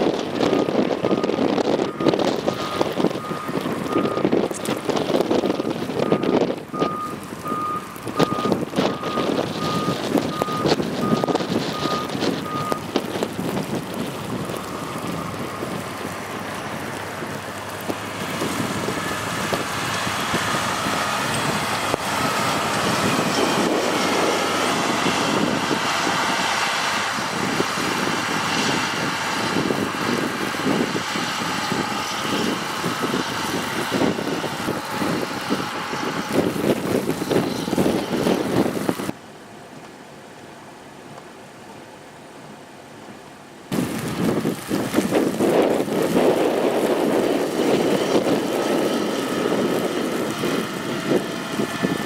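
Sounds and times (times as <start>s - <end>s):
blizzard wind buffeting microphone: 0.0s - 39.2s, 43.7s - 52.0s
vehicle running nearby: 0.0s - 39.3s, 43.7s - 52.0s.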